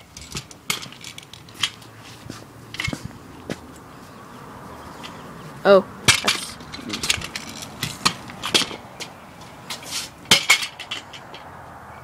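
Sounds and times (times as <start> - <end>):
metal scooter clattering on concrete: 0.0 - 4.2, 4.9 - 11.7.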